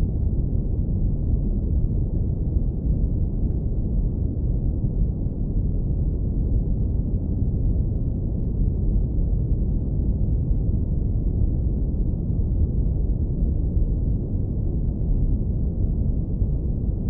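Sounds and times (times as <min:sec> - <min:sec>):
deep brown noise rumble: 0:00.0 - 0:17.0.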